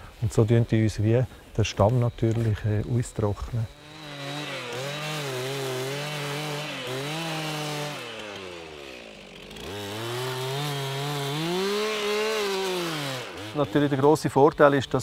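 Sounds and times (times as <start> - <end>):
chainsaw cutting wood: 1.6 - 15.0.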